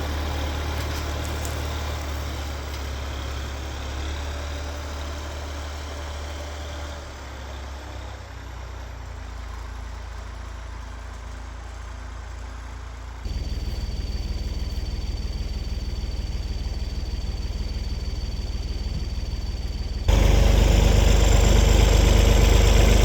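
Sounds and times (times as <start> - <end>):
tractor engine running: 0.0 - 6.5, 9.2 - 23.0.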